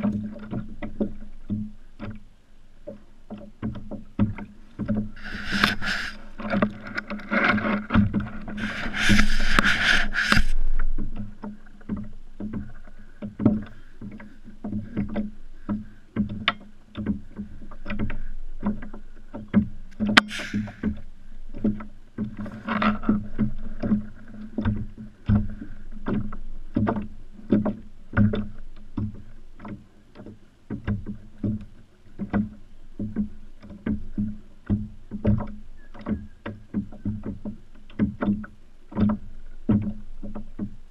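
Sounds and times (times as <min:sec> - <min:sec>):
water slapping kayak hull: 0:00.0 - 0:40.9.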